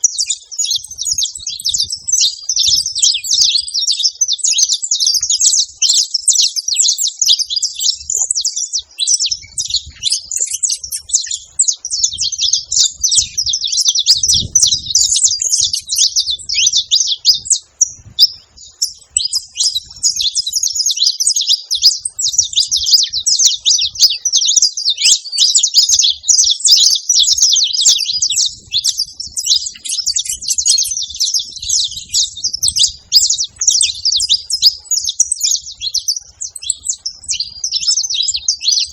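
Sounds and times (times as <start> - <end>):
finches chirping and chattering: 0.0 - 38.9.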